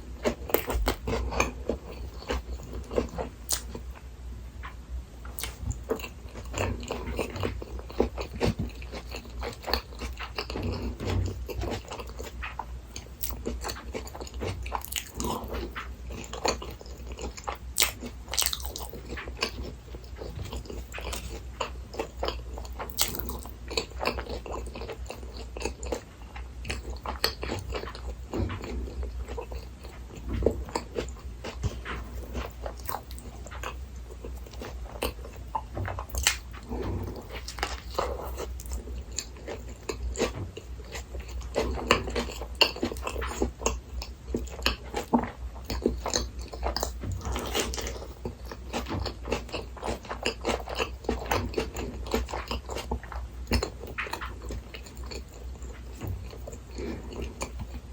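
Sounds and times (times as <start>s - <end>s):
low steady hum: 0.0s - 57.9s
person chewing food: 0.0s - 57.9s.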